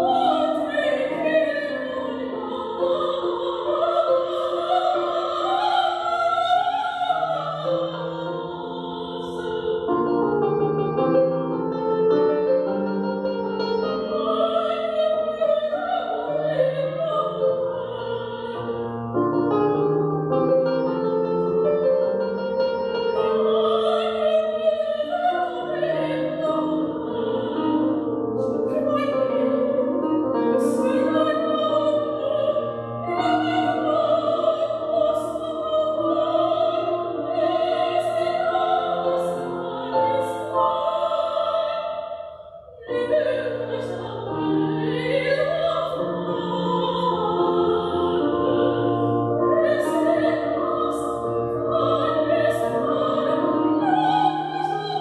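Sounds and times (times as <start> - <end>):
woman singing operatically: 0.0 - 10.0, 14.0 - 18.6, 23.3 - 28.0, 28.6 - 41.9, 42.8 - 55.0.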